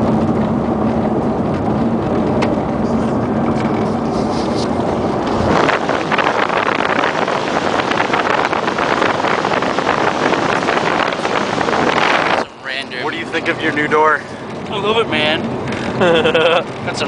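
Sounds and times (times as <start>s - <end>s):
wind buffeting microphone: 0.0s - 16.0s
car engine and road noise: 0.0s - 17.0s.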